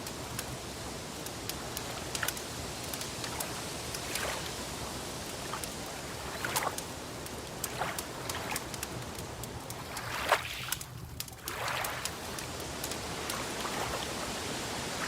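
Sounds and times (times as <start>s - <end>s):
wood fire pops and snaps: 0.0s - 0.6s, 1.2s - 4.6s, 5.2s - 13.6s
steady rushing hiss: 0.0s - 9.8s, 12.0s - 15.0s.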